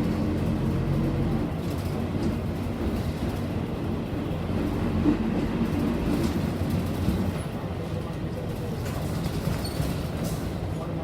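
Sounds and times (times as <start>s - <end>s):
bus engine running: 0.0s - 11.0s
road and cabin rumble: 0.0s - 11.0s.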